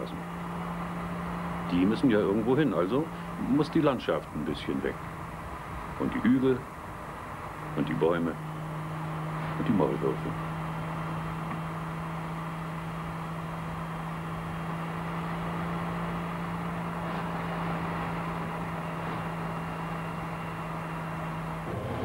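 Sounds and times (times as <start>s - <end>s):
car driving at motorway speed: 0.0s - 22.0s.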